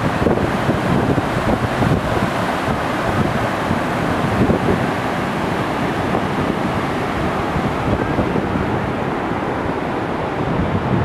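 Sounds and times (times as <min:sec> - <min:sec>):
waterfall rushing: 0:00.0 - 0:11.0
wind rumble on microphone: 0:00.0 - 0:11.0.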